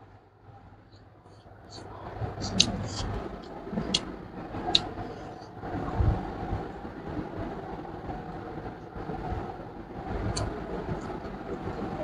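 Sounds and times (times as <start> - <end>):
low rumble: 1.5 - 12.0.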